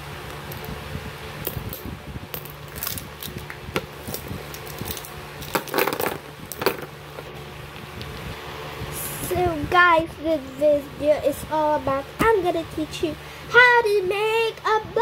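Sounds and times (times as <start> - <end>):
electric fan hum: 0.0 - 15.0.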